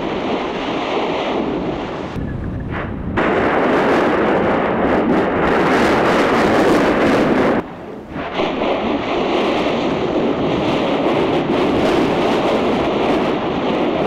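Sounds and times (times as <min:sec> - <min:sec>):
volcano roaring and spattering lava: 0:00.0 - 0:14.0.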